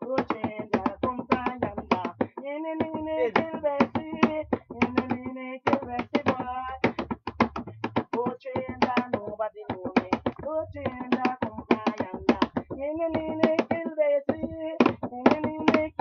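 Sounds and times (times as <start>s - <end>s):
hands slapping a wooden tabletop: 0.1s - 16.0s.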